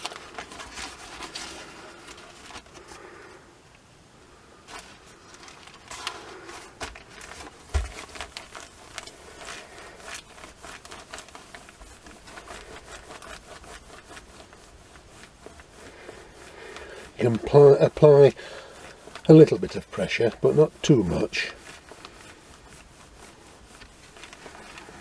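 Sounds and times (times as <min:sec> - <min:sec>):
iron sliding over newspaper: 0:00.0 - 0:03.4, 0:04.6 - 0:25.0
newspaper rustling: 0:00.0 - 0:03.4, 0:04.6 - 0:25.0.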